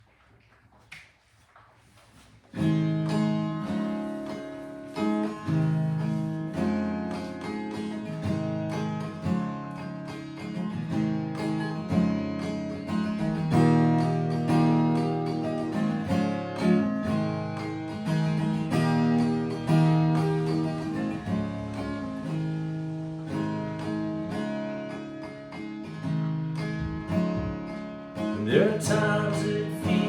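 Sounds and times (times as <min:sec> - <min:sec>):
acoustic guitar strummed chords: 0:02.5 - 0:30.0.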